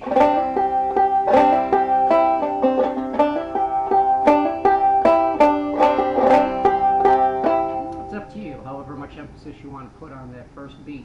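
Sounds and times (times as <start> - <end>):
banjo playing: 0.0 - 9.2.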